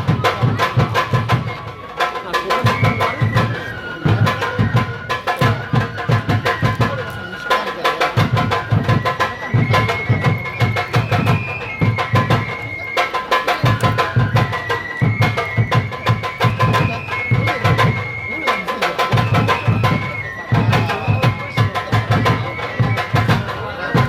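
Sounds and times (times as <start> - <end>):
drum beaten in quick clusters: 0.0 - 24.0
flute playing long high notes: 0.0 - 24.0.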